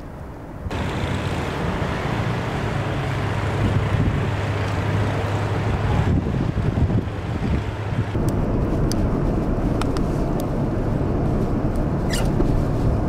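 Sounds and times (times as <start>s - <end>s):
vehicle engine hum: 0.0s - 13.0s
tyres on snow: 0.7s - 13.0s.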